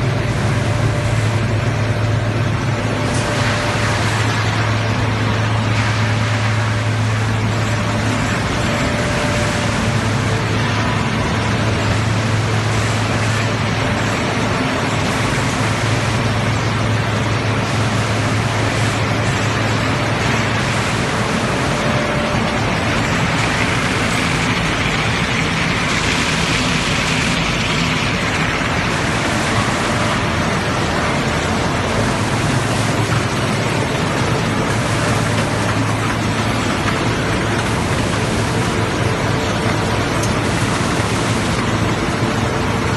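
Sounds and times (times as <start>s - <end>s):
dense rushing noise: 0.0s - 42.9s
steady low hum: 0.0s - 42.9s.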